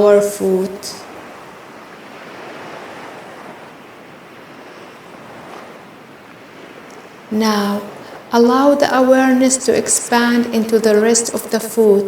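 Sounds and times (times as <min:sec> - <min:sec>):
ocean waves surf: 0:00.0 - 0:12.0.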